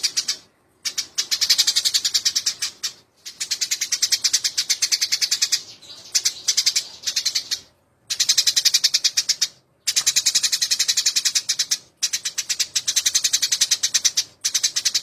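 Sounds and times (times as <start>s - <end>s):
sparrows chattering: 0.0s - 15.0s.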